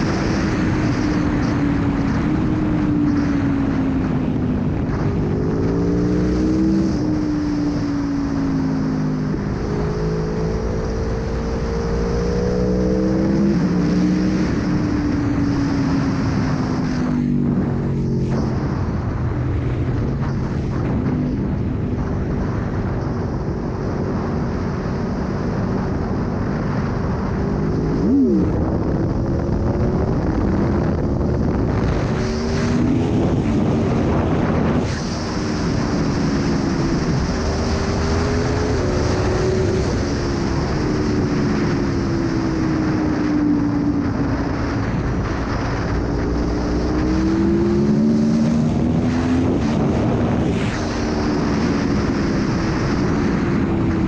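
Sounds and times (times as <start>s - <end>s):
motorcycle engine revving: 0.0s - 54.0s
wind rushing over microphone: 0.0s - 54.0s.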